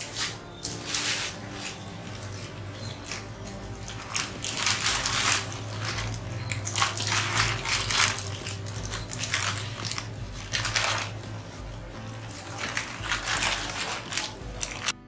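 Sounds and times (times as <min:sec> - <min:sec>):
dried leaves rustling and crunching: 0:00.0 - 0:15.0
plastic bags crinkling: 0:00.0 - 0:15.0.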